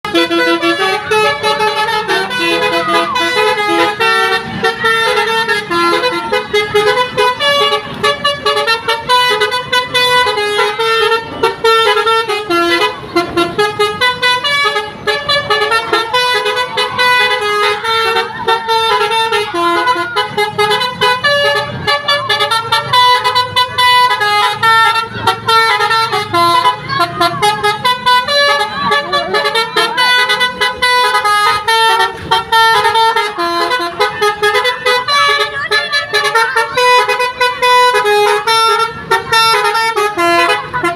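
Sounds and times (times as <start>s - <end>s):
musical bus horn playing a tune: 0.0s - 40.9s.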